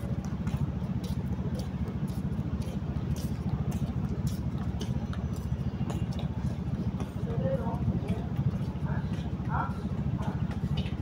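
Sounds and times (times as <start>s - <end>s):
engine idling rumble: 0.0s - 11.0s.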